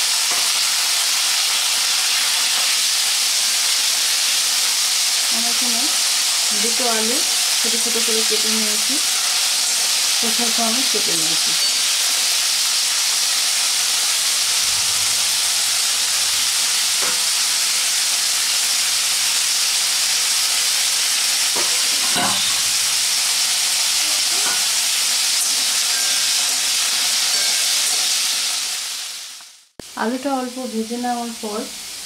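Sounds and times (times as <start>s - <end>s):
potatoes sizzling in oil: 0.0s - 32.0s.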